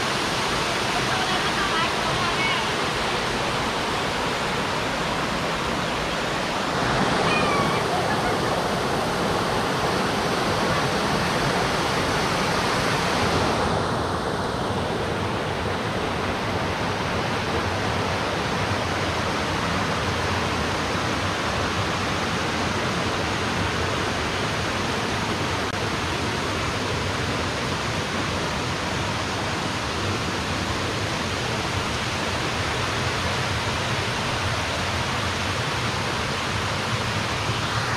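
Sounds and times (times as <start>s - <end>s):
stream rushing over boulders: 0.0s - 37.9s.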